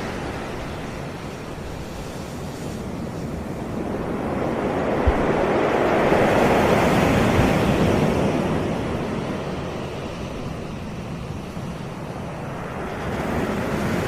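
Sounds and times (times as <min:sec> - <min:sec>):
sea waves washing ashore: 0:00.0 - 0:14.0.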